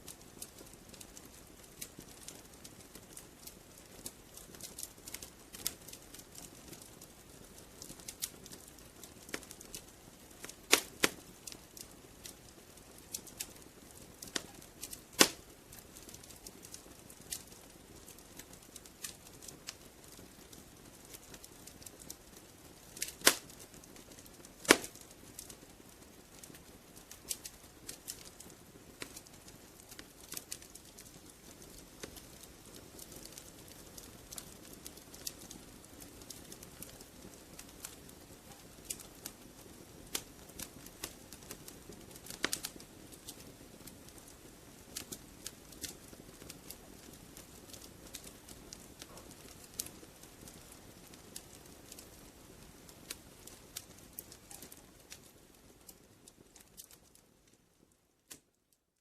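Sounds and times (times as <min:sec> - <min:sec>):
wood fire popping and snapping: 0:00.0 - 0:58.8
fire flames rumbling: 0:00.1 - 0:57.9.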